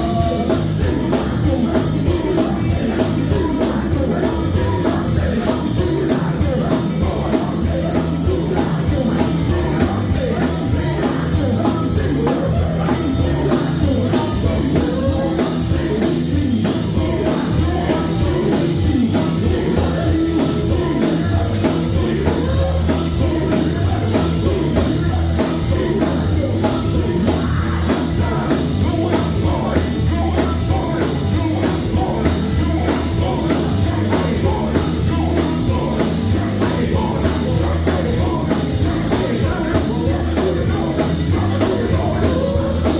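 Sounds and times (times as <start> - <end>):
band with drums: 0.0 - 42.9
group singing: 0.0 - 42.9
stepping bass line: 0.0 - 42.9.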